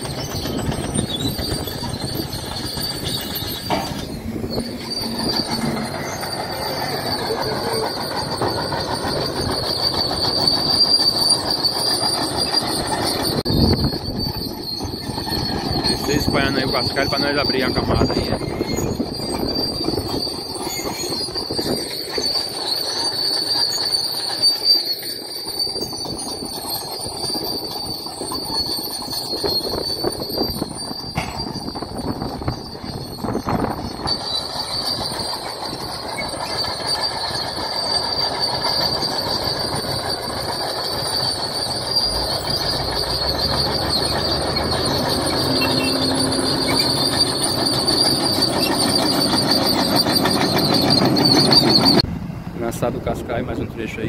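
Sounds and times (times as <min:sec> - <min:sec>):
diesel engine under load: 0:00.0 - 0:54.0
steel tracks squealing and clanking: 0:00.0 - 0:54.0.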